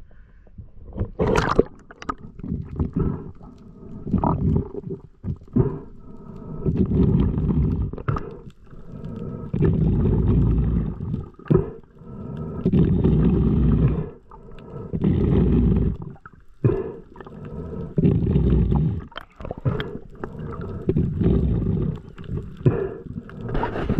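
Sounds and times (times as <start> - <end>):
muffled underwater water surges: 1.0 - 23.9.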